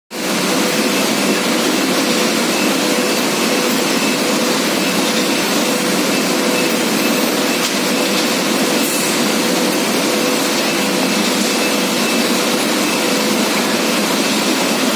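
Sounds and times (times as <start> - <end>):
loud machinery noise: 0.1 - 14.9.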